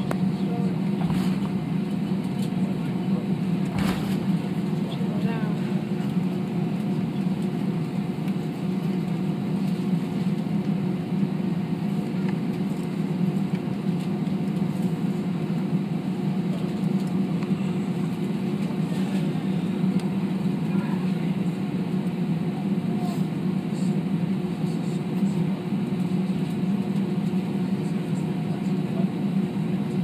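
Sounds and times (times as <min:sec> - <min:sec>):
airplane cabin engine drone: 0:00.0 - 0:30.0.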